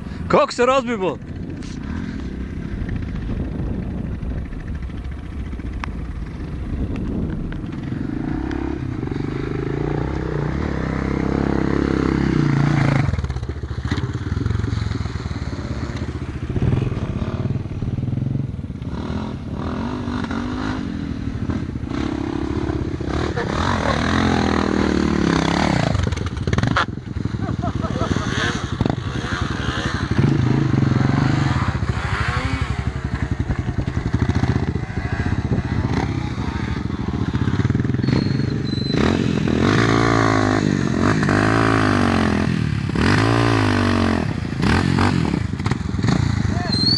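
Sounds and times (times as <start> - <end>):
dirt bike engine revving: 0.7 - 46.9.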